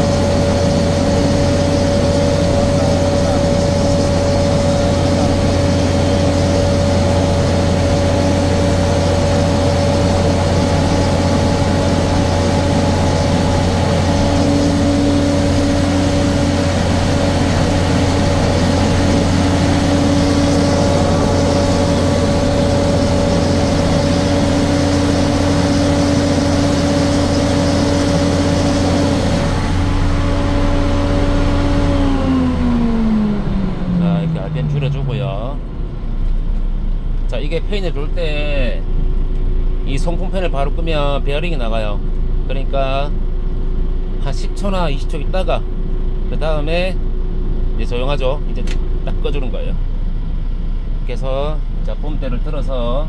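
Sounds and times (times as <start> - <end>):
sprayer engine and blower fan: 0.0 - 53.0.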